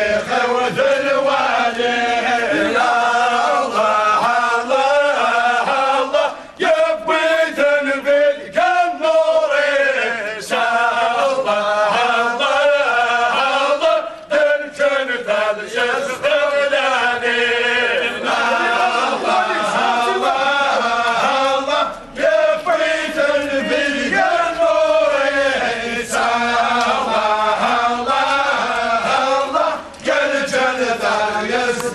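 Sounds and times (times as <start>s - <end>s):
men chanting together: 0.0s - 31.9s.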